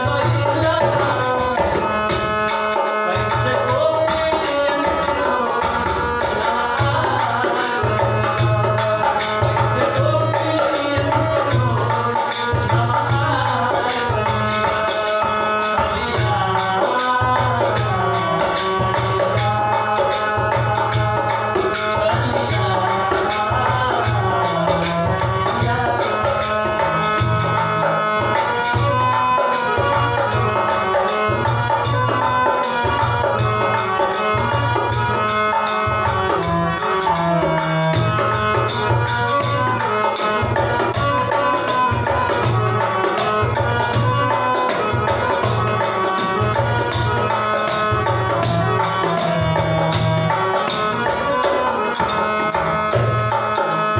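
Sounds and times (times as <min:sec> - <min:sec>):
man singing: 0:00.0 - 0:53.8
harmonium chords and melody: 0:00.0 - 0:53.9.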